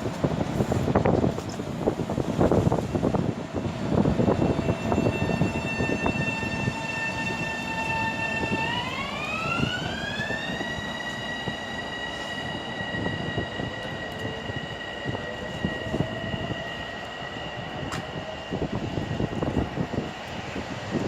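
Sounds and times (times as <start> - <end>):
electric train motor whine: 2.2 - 21.0.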